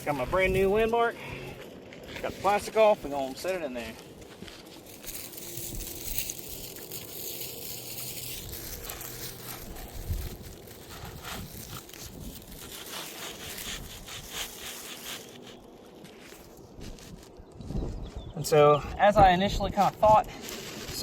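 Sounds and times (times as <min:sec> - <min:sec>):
shingle scraping and rustling: 0:00.0 - 0:21.0.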